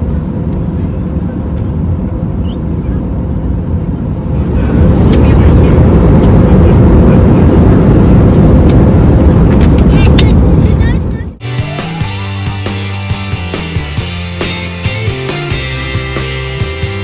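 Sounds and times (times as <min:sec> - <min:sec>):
airliner cabin engine rumble: 0:00.0 - 0:15.8.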